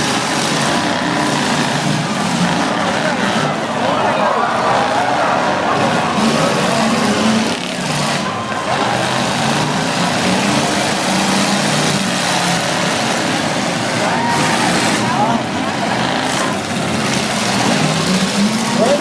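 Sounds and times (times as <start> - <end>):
car engines revving together: 0.0 - 19.0.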